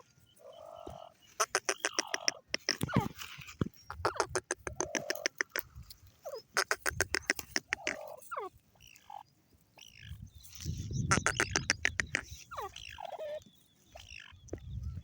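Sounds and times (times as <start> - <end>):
francolin calling: 0.0 - 15.0.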